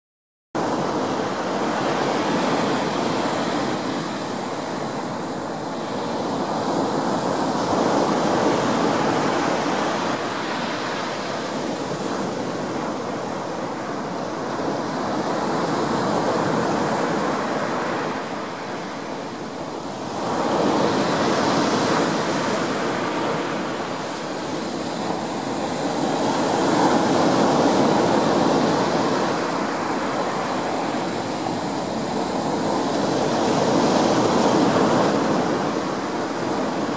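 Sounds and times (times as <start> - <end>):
surf breaking on a beach: 0.6 - 36.9.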